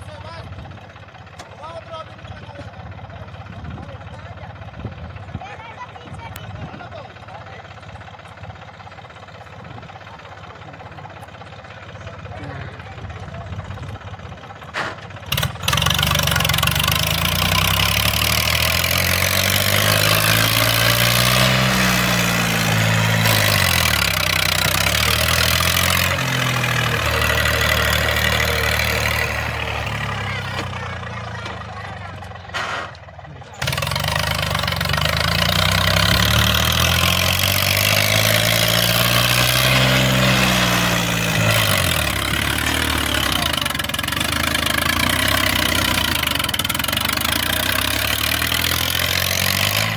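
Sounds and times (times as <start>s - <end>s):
tractor diesel engine revving: 0.0s - 49.9s.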